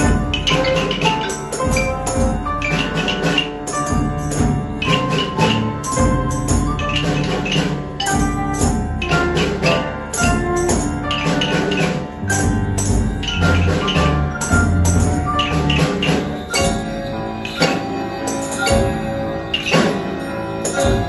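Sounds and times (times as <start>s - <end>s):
piano: 0.0s - 21.0s
rhythm band percussion: 0.0s - 21.0s.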